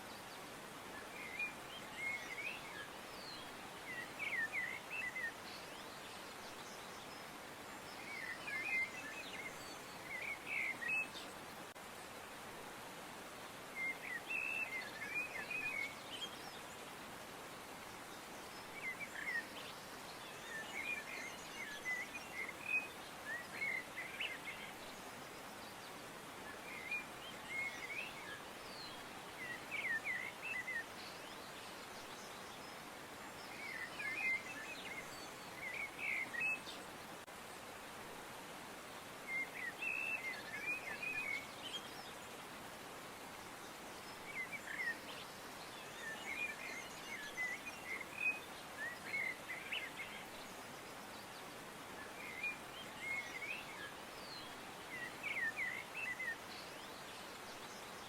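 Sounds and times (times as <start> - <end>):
small birds twittering: 0.0 - 12.4, 13.2 - 58.0
steady soft hiss: 0.0 - 58.0.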